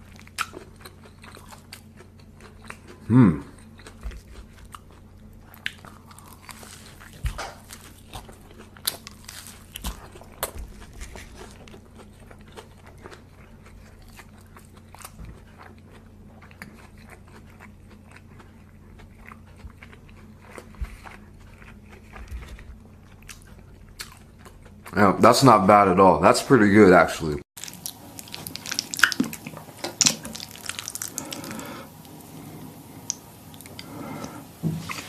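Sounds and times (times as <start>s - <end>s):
person chewing and crunching food: 0.0s - 25.4s, 27.6s - 35.0s
steady low hum: 0.0s - 35.0s.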